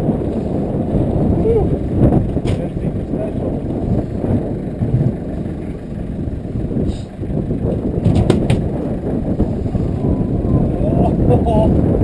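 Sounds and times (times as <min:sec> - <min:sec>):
boat noise: 0:00.0 - 0:12.0
wind rumble: 0:00.0 - 0:12.0.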